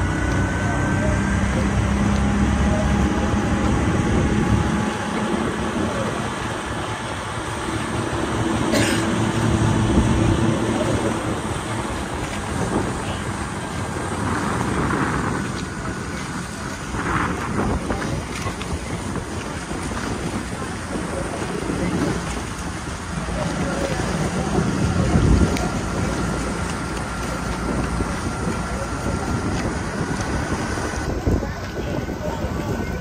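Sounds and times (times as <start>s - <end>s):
boat engine running: 0.0s - 33.0s
water noise: 0.0s - 33.0s
wind on microphone: 0.0s - 33.0s.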